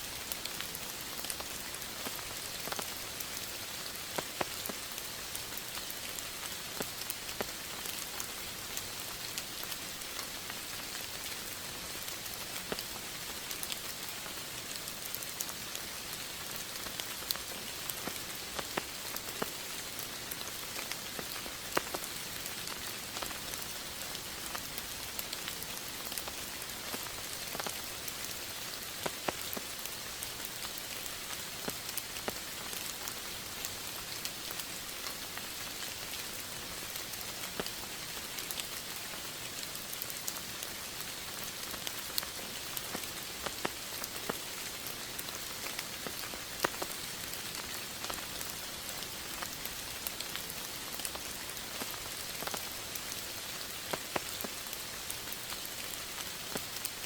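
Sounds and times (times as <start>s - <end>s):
raindrops ticking on a surface: 0.0s - 57.0s
steady rain falling: 0.0s - 57.0s.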